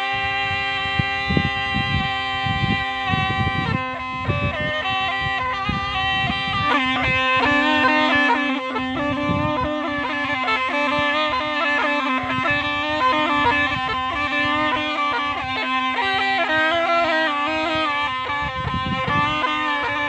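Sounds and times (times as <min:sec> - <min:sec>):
reed pipe melody over drone: 0:00.0 - 0:20.0.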